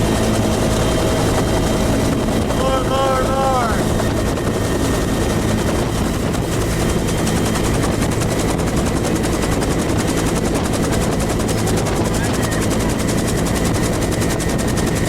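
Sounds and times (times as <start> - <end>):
helicopter engine drone: 0.0 - 15.0
helicopter rotor chopping: 0.0 - 15.0.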